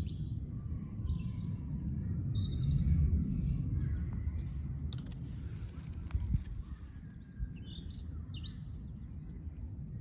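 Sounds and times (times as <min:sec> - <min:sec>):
faint bird chirps: 0:00.0 - 0:04.6, 0:05.7 - 0:10.0
low rumbling background noise: 0:00.0 - 0:10.0.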